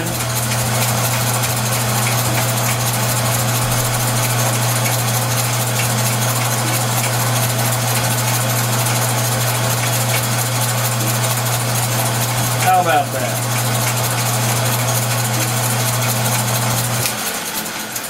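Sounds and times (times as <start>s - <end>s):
metal lathe running with hum: 0.0s - 18.0s.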